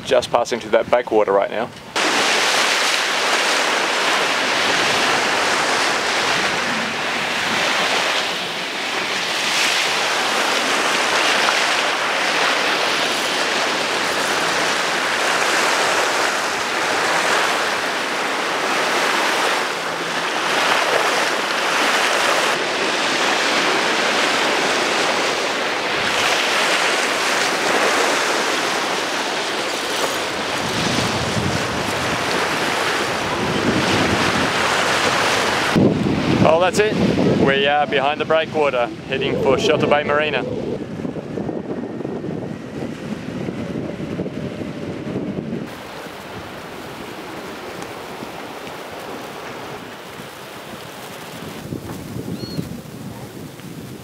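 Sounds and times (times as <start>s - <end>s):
wind on microphone: 0.0s - 54.0s
water splashing along hull: 1.4s - 54.0s.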